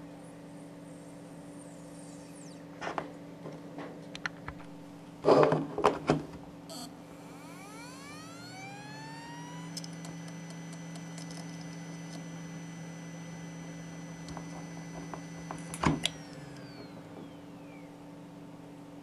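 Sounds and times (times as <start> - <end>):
low hum: 0.0 - 3.7, 6.7 - 18.8
hard drive whine: 0.0 - 5.8, 6.4 - 19.0.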